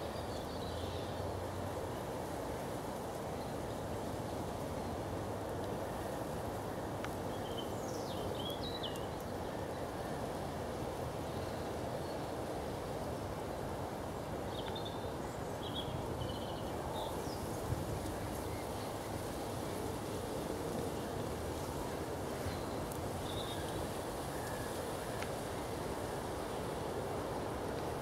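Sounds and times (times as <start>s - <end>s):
low even hiss: 0.0s - 28.0s.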